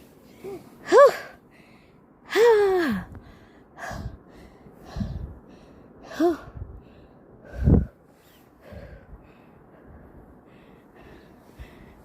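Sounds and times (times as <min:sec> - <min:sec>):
person breathing hard: 0:01.4 - 0:12.0.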